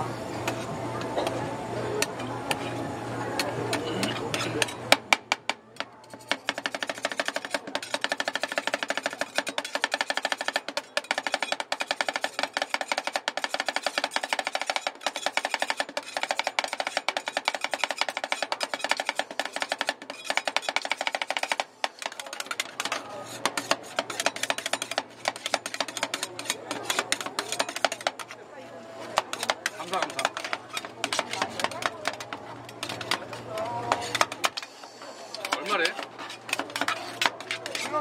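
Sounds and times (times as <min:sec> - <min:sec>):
spatula scraping: 0:00.4 - 0:01.4, 0:02.0 - 0:05.0, 0:05.8 - 0:38.0
metal spatulas clacking on steel plate: 0:03.4 - 0:28.3, 0:29.2 - 0:34.7, 0:35.3 - 0:38.0.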